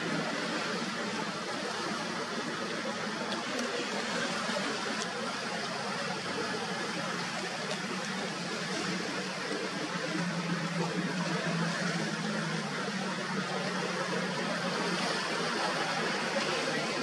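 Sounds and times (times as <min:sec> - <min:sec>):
low boat engine hum: 0:00.0 - 0:17.0
rushing water: 0:00.0 - 0:17.0
wind: 0:00.0 - 0:17.0.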